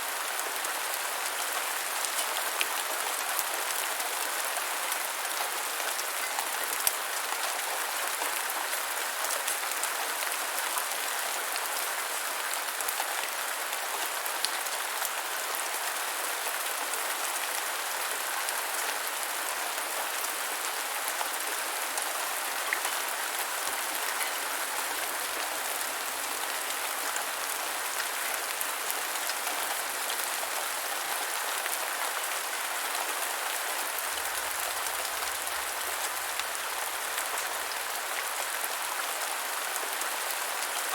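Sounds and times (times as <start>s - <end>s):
gentle rain patter: 0.0s - 40.9s.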